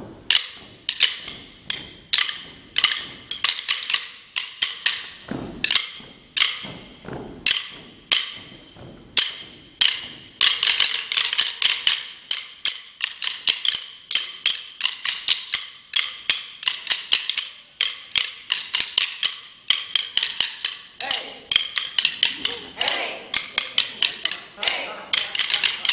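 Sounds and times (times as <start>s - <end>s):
drumsticks clicking in rhythm: 0.0s - 25.9s.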